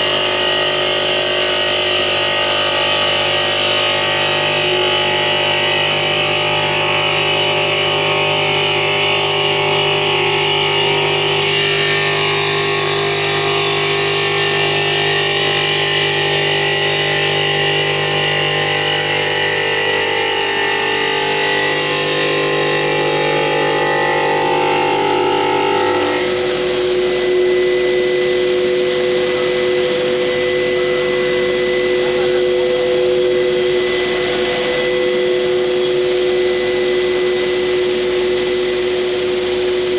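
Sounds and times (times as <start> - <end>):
stone polishing machine whine: 0.0 - 39.9.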